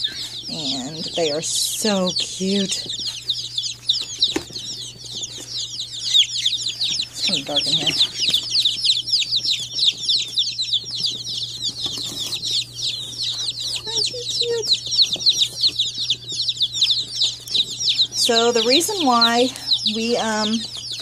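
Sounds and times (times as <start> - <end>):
baby chicks peeping: 0.0 - 21.0.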